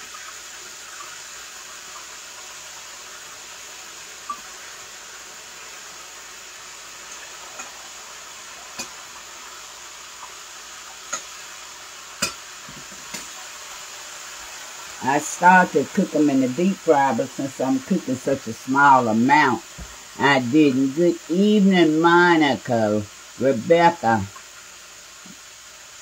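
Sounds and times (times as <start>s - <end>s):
frying sizzle: 0.0s - 26.0s.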